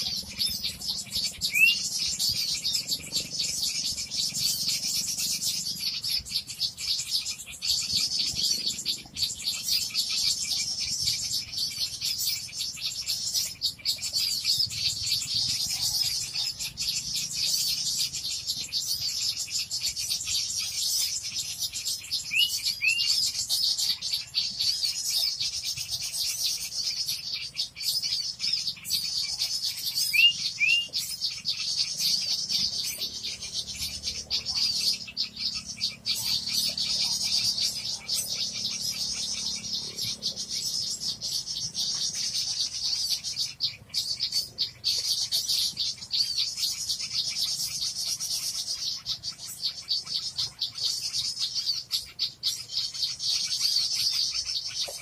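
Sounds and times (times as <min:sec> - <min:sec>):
small birds chattering: 0:00.0 - 0:55.0.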